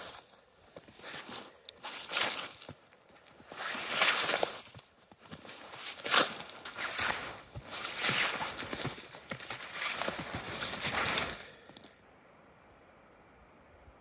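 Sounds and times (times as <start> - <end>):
footsteps crunching through snow: 0.0 - 11.8.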